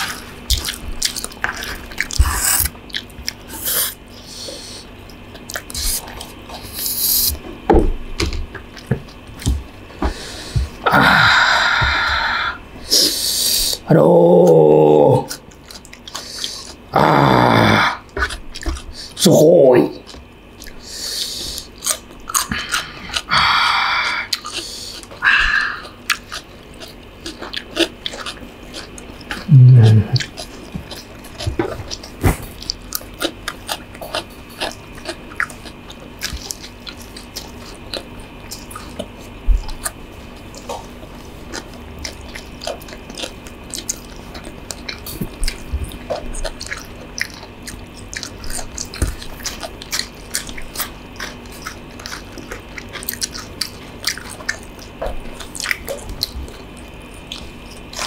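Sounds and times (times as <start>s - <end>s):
chewing and biting: 0.0s - 58.0s.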